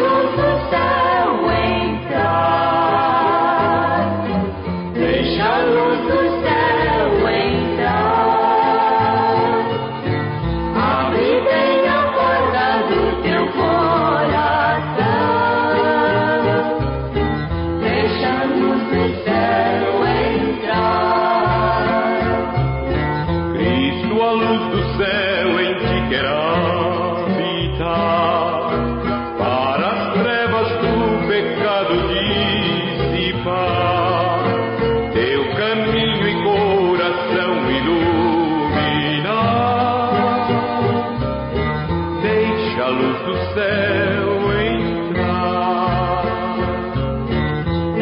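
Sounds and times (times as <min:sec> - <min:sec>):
voices singing a hymn: 0:00.0 - 0:16.9, 0:17.8 - 0:22.9, 0:23.5 - 0:41.3, 0:42.2 - 0:47.0
instrumental accompaniment: 0:00.0 - 0:48.0.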